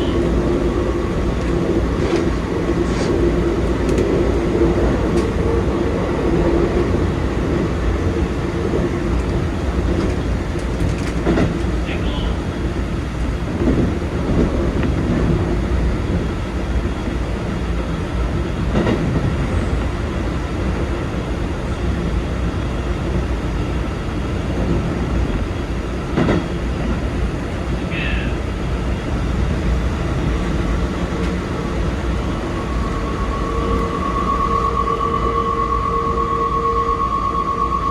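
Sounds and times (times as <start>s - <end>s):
electric train rumbling: 0.0s - 37.9s.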